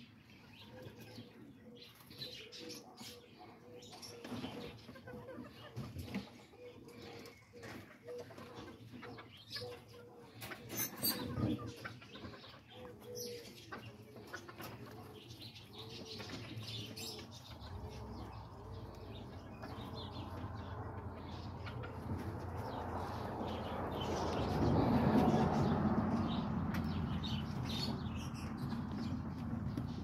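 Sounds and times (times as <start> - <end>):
pigeon cooing: 0.7 - 25.7.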